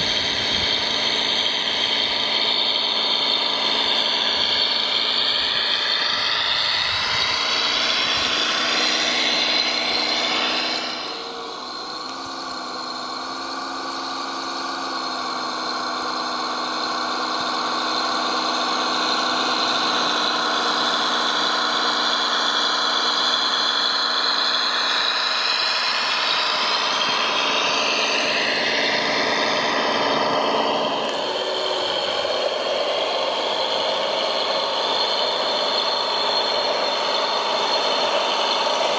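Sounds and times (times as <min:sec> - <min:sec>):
toy tractor motor whining: 0:00.0 - 0:38.9.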